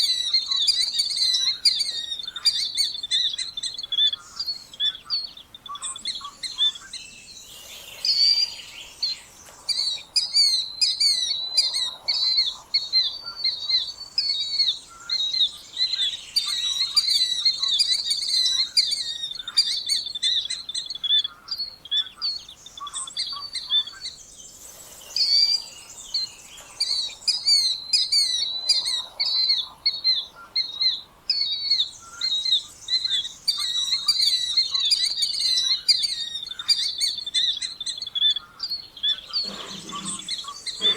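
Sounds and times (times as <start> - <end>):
killdeer calling: 0.0 - 24.2, 25.2 - 40.9.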